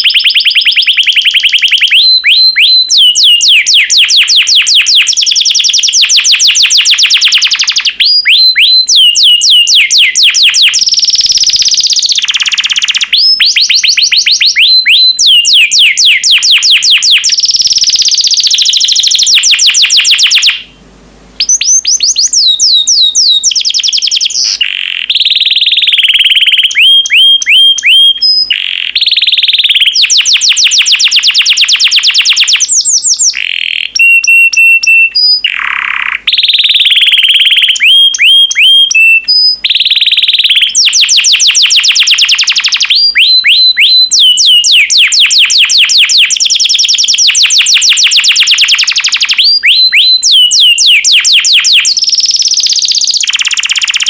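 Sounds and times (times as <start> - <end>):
canary singing fast trills: 0.0 - 20.8, 21.4 - 54.0.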